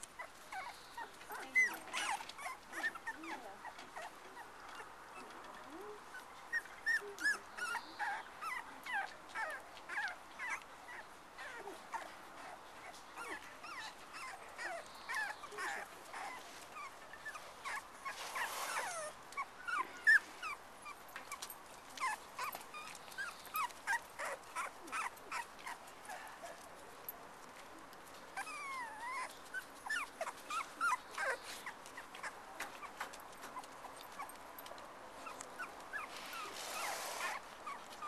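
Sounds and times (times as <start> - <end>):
puppies whimpering and squeaking: 0.0 - 26.6, 28.3 - 38.0.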